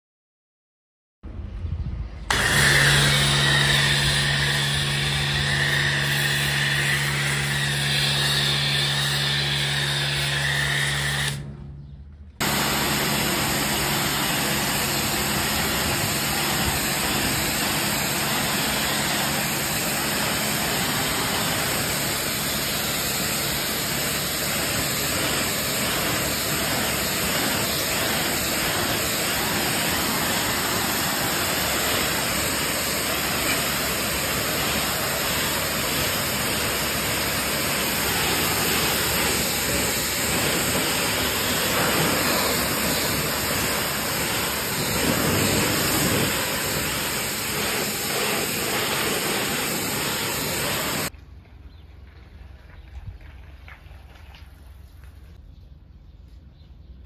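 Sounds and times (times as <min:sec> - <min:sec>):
pressure washer spraying water: 0:02.3 - 0:11.5, 0:12.4 - 0:51.1.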